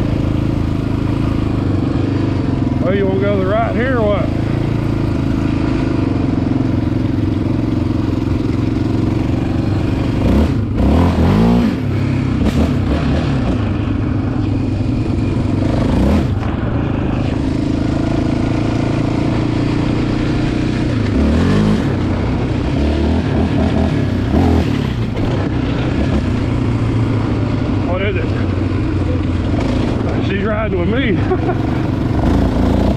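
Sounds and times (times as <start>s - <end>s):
atv engine revving: 0.0s - 32.9s.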